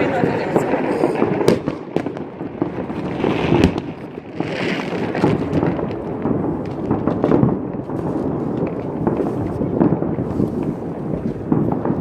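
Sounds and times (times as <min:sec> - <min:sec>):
fireworks and firecrackers crackling: 0:00.0 - 0:12.0
heavy firework bang: 0:00.0 - 0:12.0.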